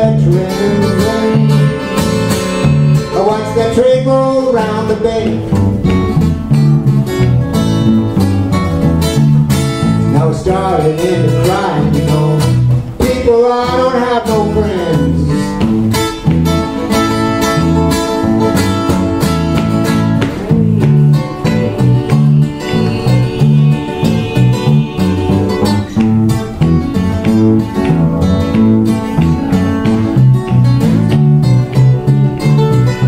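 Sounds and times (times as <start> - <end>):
acoustic guitars playing: 0.0 - 33.0.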